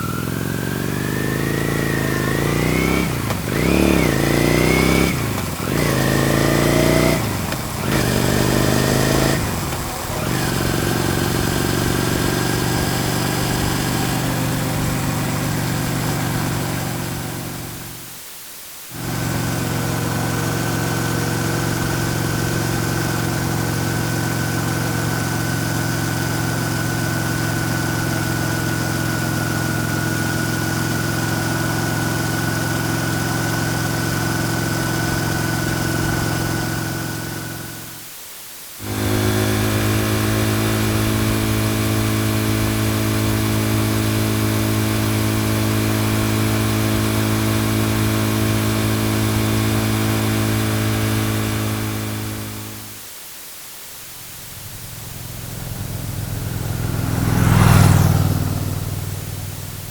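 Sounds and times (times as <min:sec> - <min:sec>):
motorcycle engine accelerating: 0:00.0 - 0:18.1, 0:18.9 - 0:38.1, 0:38.8 - 0:53.0, 0:54.3 - 0:59.9
motorcycle engine running steadily: 0:00.0 - 0:18.2, 0:18.9 - 0:38.1, 0:38.8 - 0:53.0, 0:54.2 - 0:59.9.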